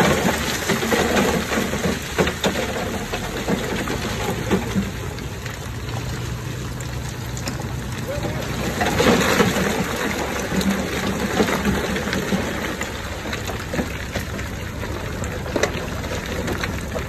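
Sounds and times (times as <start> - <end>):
diesel engine rumbling: 0.0 - 17.0
stone and gravel being pushed: 0.0 - 17.0.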